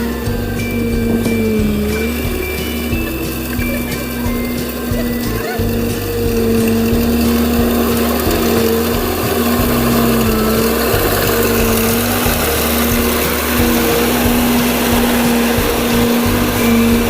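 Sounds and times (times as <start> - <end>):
combine harvester engine droning: 0.0 - 17.0.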